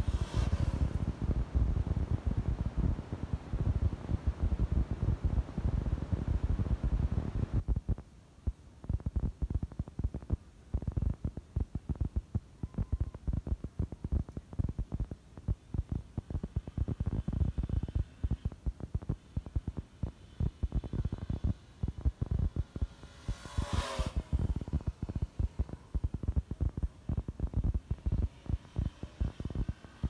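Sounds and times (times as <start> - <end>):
race car engine rumbling: 0.0 - 30.0.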